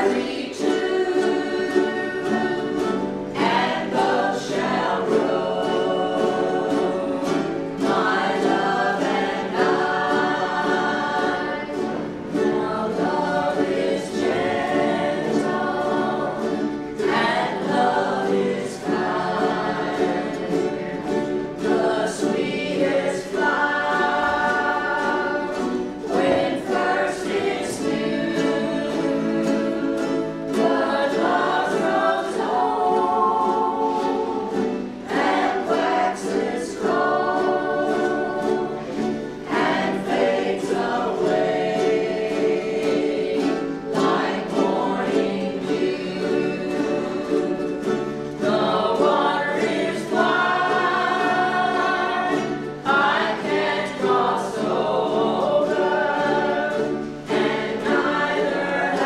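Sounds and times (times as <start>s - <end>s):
choir singing: 0.0s - 59.0s
ukulele strumming: 0.0s - 59.0s.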